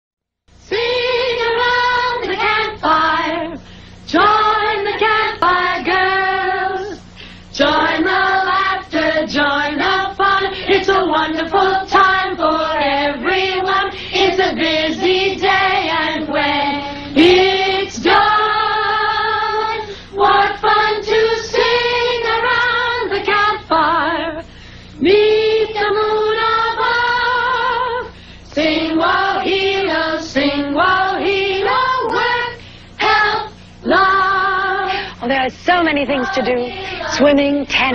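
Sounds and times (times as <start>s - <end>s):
faint low hum: 0.5s - 37.9s
choir of high voices singing: 0.7s - 7.0s, 7.6s - 24.4s, 25.0s - 35.1s, 36.0s - 37.4s.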